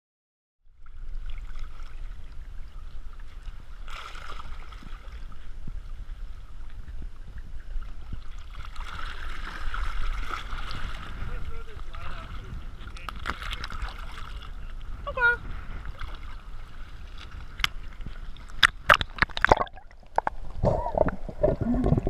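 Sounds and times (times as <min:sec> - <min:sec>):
low rumble of wind and water: 0:00.6 - 0:22.0
sea water sloshing: 0:00.7 - 0:22.0.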